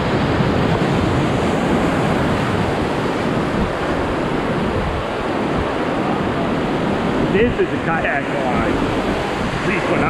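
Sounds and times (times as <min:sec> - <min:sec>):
whitewater rapids rushing: 0:00.0 - 0:10.0.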